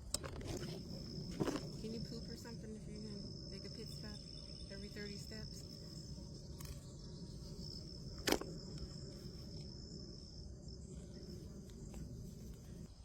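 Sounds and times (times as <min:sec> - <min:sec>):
low outdoor rumble: 0:00.0 - 0:13.0
high-pitched insect trill: 0:00.6 - 0:13.0.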